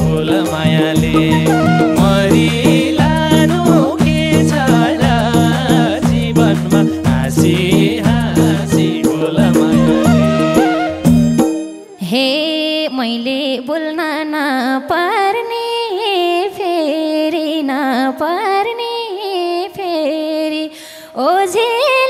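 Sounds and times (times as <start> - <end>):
woman singing folk song: 0.0 - 10.1, 12.0 - 22.0.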